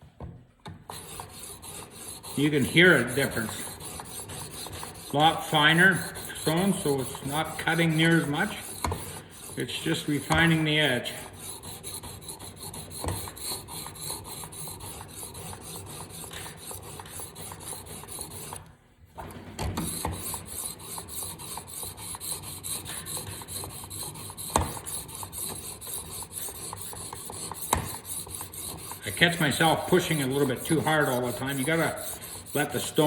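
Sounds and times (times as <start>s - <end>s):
sharpening stone rasping on knife: 0.9s - 18.6s, 19.9s - 33.0s.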